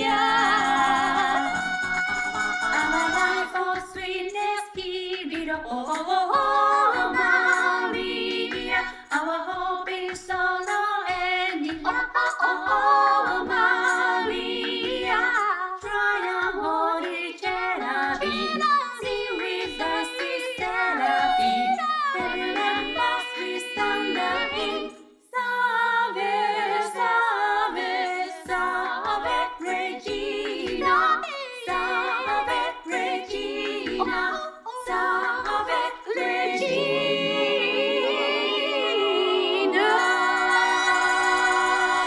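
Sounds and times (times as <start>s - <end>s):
a cappella choir singing: 0.0s - 42.0s.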